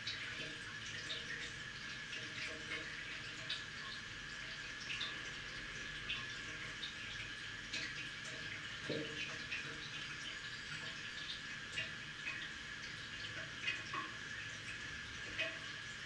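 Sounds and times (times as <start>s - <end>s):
drips and splashes: 0.0s - 16.0s
faint steady hum: 0.0s - 16.0s
tap water running into sink: 0.0s - 16.0s.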